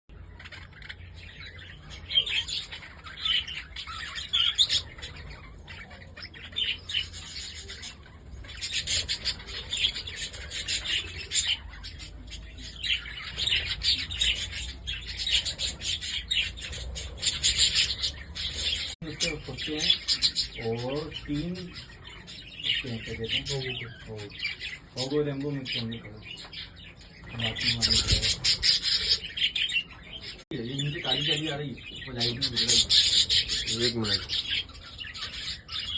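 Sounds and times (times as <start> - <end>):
flock of budgerigars chirping: 0.1 - 35.9.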